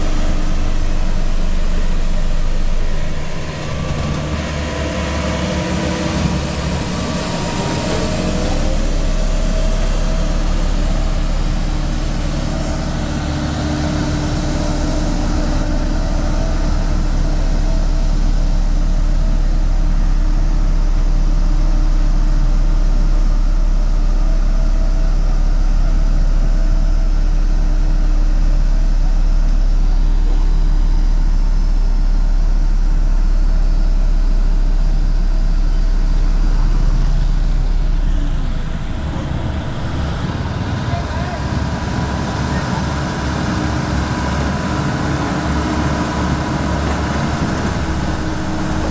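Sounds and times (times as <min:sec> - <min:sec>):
diesel roller engine rumbling: 0:00.0 - 0:48.9.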